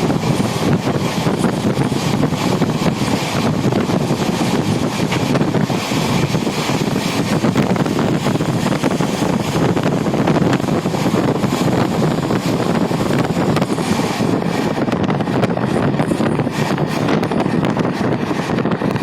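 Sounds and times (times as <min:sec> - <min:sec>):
moving passenger train: 0:00.0 - 0:19.0
wind buffeting microphone: 0:00.0 - 0:19.0.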